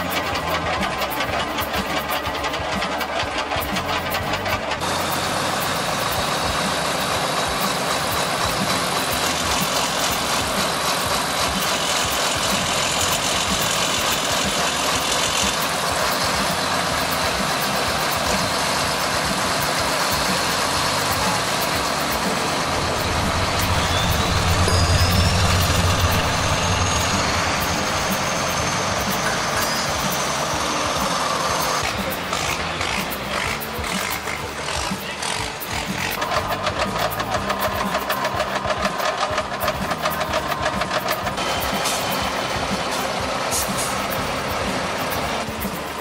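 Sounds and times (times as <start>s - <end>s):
truck diesel engine running: 0.0s - 46.0s.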